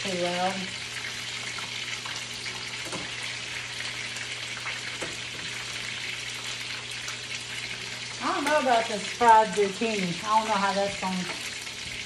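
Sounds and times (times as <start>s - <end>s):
grease sizzling in a pan: 0.0s - 12.0s.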